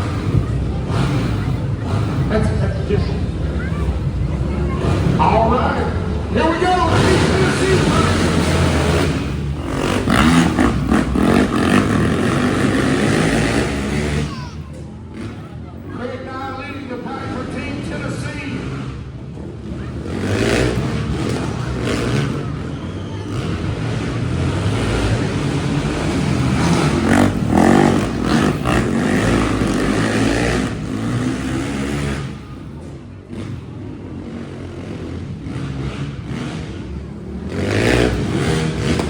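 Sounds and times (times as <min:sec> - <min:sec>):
truck engines revving: 0:00.0 - 0:39.0.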